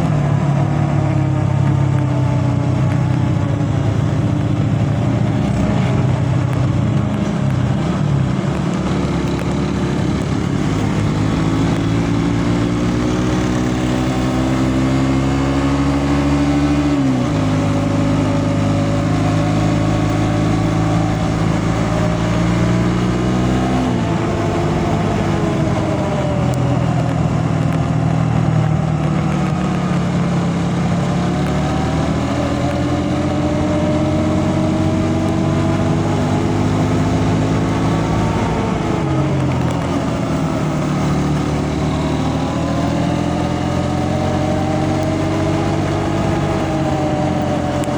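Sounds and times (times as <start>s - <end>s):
vehicle engine changing gears: 0.0s - 47.9s.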